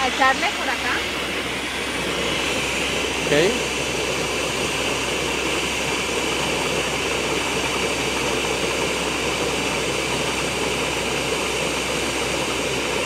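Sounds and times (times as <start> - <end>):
blender motor whirring: 0.0 - 13.0.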